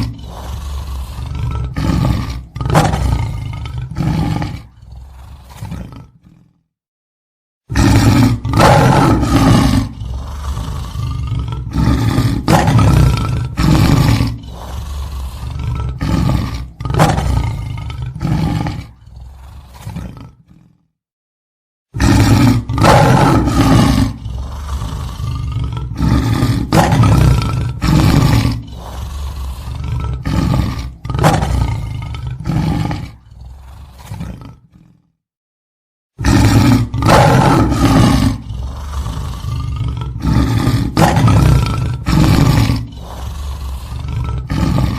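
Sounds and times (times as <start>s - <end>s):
lion roaring: 0.0s - 6.7s, 7.7s - 21.0s, 21.9s - 35.2s, 36.2s - 44.9s.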